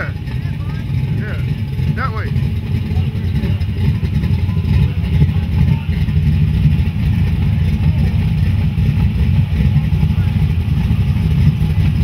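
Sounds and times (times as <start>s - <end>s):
car engine idling unevenly: 0.0s - 12.0s.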